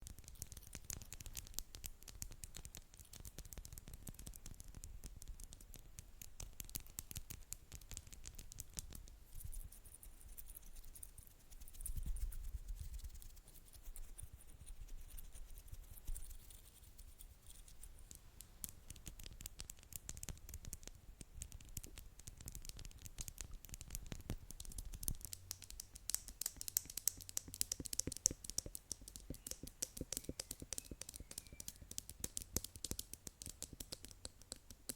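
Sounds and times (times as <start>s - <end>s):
light tapping and scratching: 0.0s - 34.9s.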